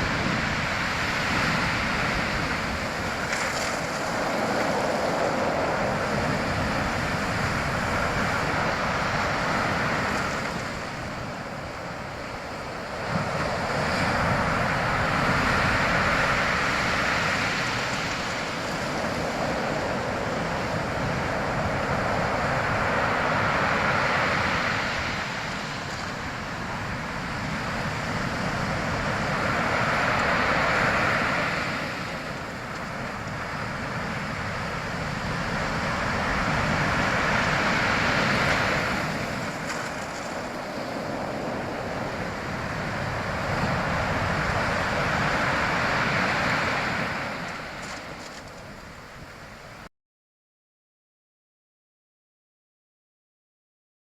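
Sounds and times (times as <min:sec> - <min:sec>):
sea waves breaking: 0:00.0 - 0:49.9.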